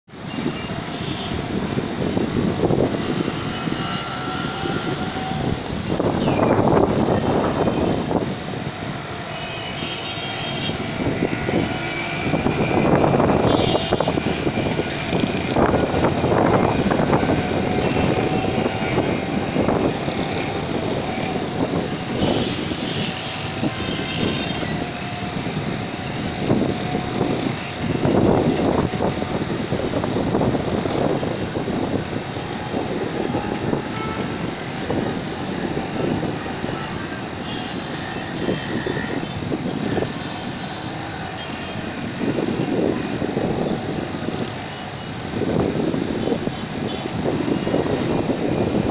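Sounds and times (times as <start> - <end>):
distant city drone: 0.1 - 48.9
wind buffeting microphone: 0.1 - 48.9.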